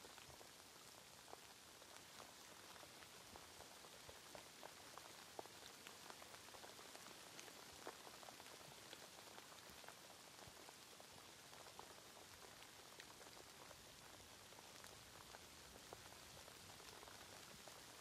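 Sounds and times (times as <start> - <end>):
faint steady rain: 0.0 - 18.0
raindrops ticking: 0.0 - 18.0.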